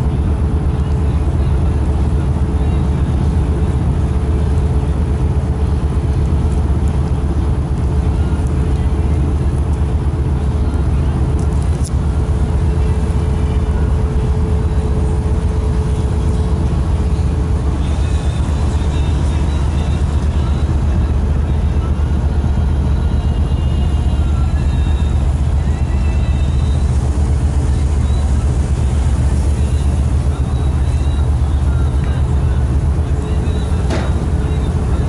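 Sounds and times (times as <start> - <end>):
boat diesel engine drone: 0.0 - 35.0
faint steady whine: 0.8 - 35.0.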